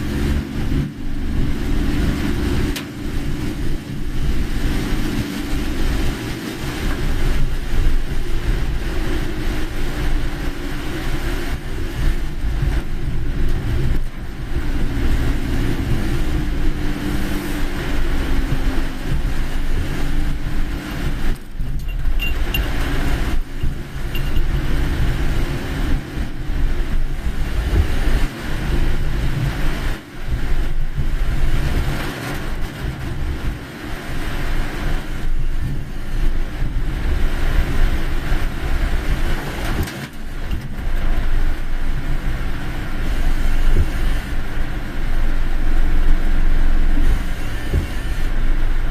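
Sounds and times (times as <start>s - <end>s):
car road and engine noise: 0.0s - 48.9s.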